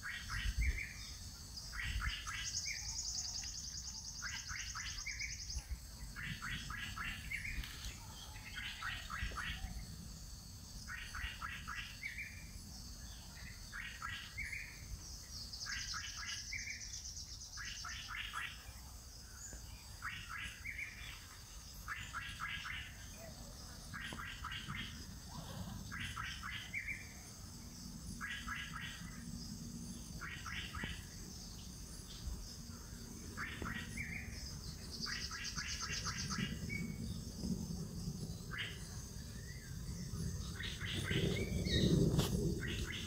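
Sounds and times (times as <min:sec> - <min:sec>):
songbird chirping: 0:00.0 - 0:43.0.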